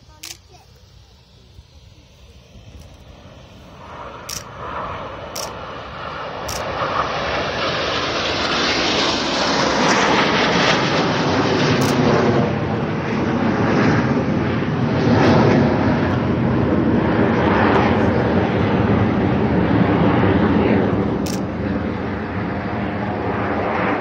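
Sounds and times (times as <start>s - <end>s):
jet aircraft roaring overhead: 0.0s - 24.0s.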